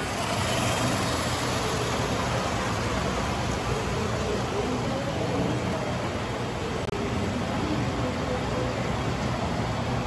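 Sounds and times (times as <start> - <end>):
faint distant voices: 0.0 - 10.0
rumbling hiss of hall: 0.0 - 10.0.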